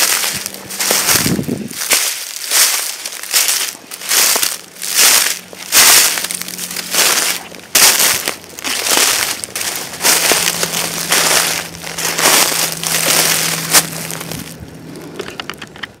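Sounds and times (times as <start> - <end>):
footsteps crunching dry leaves: 0.0 - 15.2.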